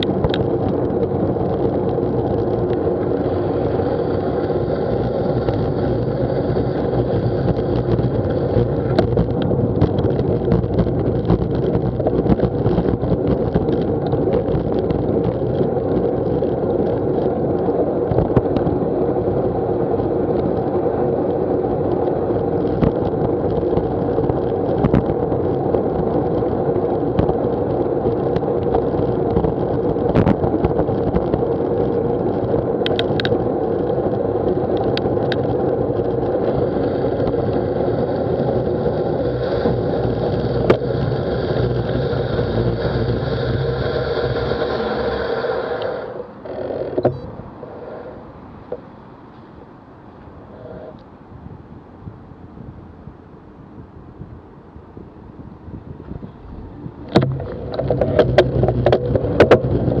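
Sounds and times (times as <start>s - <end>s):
bike clicks and rattles: 0.0s - 49.5s, 56.0s - 60.0s
tyre noise on wet road: 0.0s - 52.6s, 55.3s - 60.0s
wind rumble on microphone: 0.0s - 60.0s.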